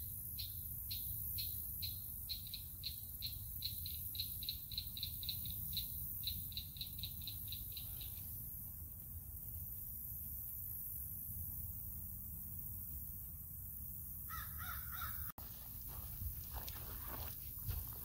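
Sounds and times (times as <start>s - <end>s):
steady high hiss: 0.0s - 17.7s.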